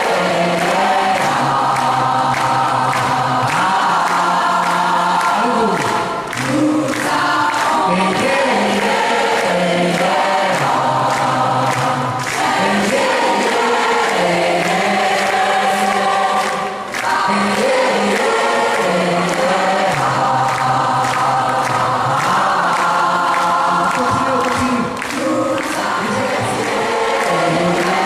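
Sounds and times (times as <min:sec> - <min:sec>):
large choir singing: 0:00.0 - 0:28.0
steady percussive beat: 0:00.0 - 0:28.0.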